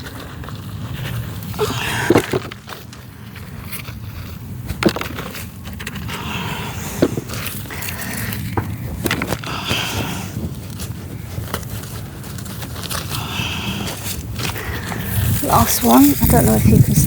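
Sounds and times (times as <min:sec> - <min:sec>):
hands digging through dry soil: 0:00.0 - 0:17.0.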